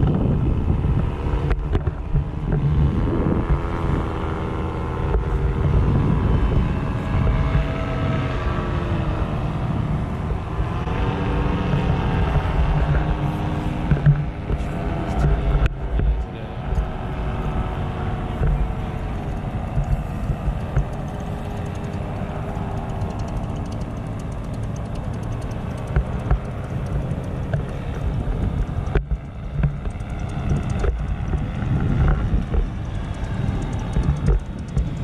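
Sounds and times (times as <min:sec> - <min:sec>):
paraglider engines droning: 0:00.0 - 0:35.0
wind rumbling on microphone: 0:00.0 - 0:35.0.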